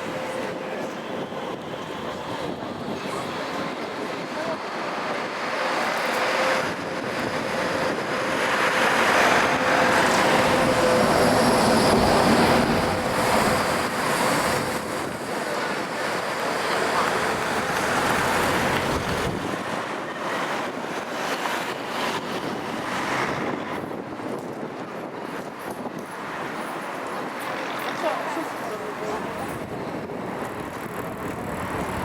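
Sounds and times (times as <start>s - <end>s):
bus engine and road noise: 0.0s - 32.0s.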